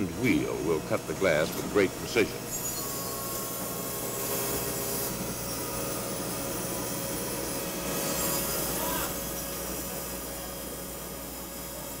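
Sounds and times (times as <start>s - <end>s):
lens grinding machine whirring: 0.0s - 11.9s.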